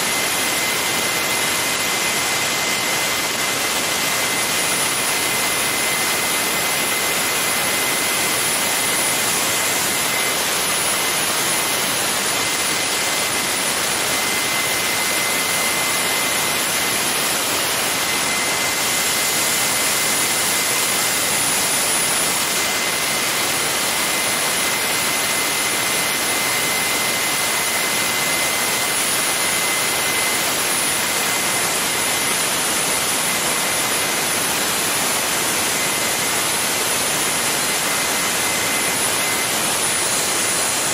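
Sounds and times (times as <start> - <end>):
gas turbine roaring with whine: 0.0 - 40.9.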